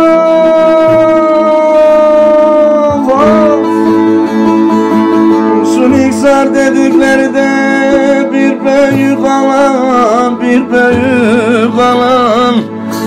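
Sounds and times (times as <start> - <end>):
plucked long-necked lute: 0.0 - 13.0.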